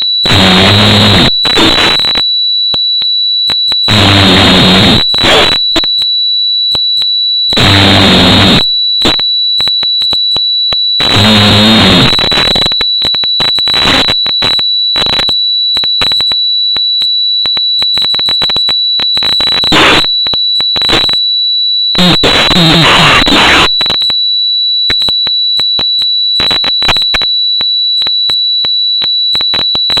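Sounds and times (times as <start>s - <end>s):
constant high-pitched tone: 0.0s - 30.0s.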